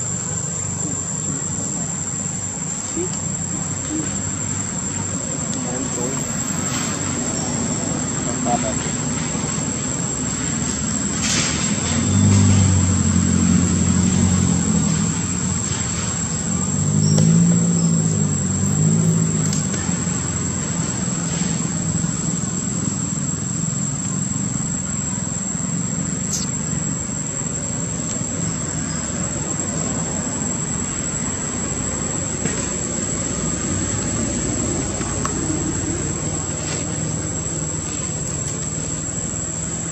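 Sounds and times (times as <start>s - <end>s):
high-pitched whine: 0.0s - 39.9s
passing vehicles: 0.0s - 39.9s.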